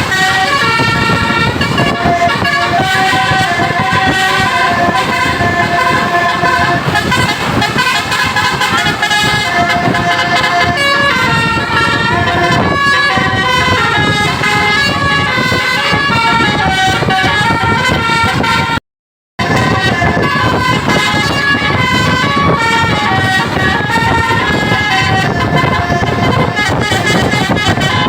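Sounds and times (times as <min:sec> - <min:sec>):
bus horn playing a melody: 0:00.0 - 0:18.8, 0:19.4 - 0:28.0.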